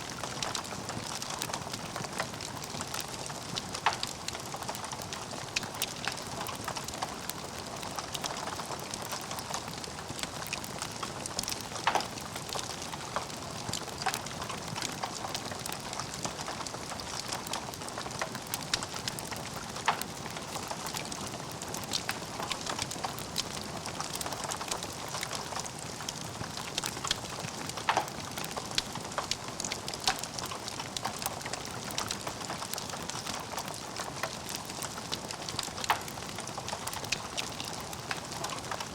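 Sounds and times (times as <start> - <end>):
fire popping: 0.0 - 38.9
wood fire crackling: 0.0 - 38.9.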